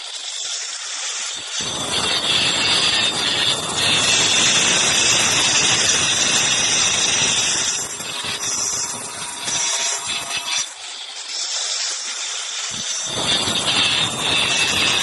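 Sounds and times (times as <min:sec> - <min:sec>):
marble cutter grinding stone: 0:00.0 - 0:15.0.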